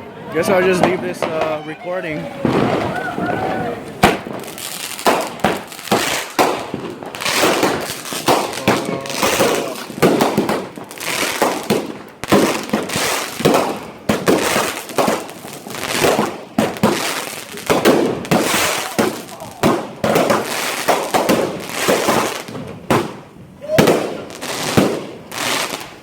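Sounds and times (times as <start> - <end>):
firecrackers crackling: 0.0 - 26.0
fireworks banging: 0.0 - 26.0.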